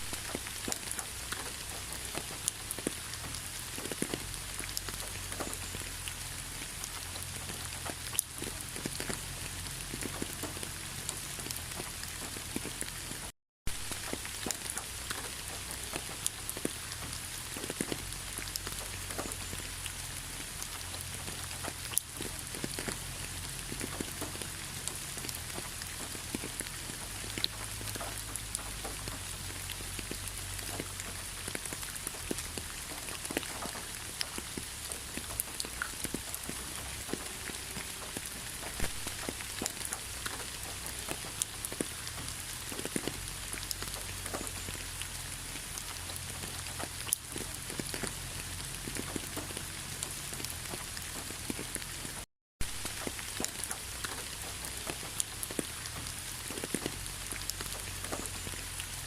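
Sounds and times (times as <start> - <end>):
raindrops striking close by: 0.0 - 59.0
steady rain falling: 0.0 - 59.0.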